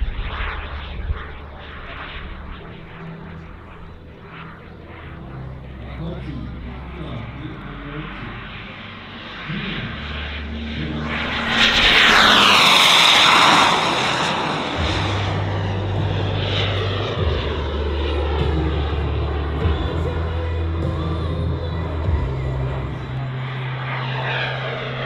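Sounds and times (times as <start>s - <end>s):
model jet turbine whine passing: 0.0s - 25.0s.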